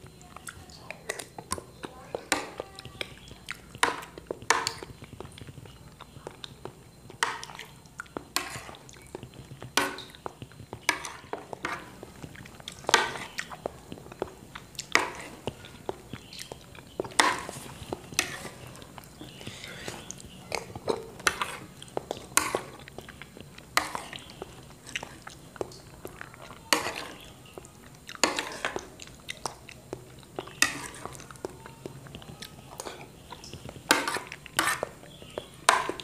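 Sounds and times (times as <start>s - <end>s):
soft wet chewing: 0.0s - 36.0s.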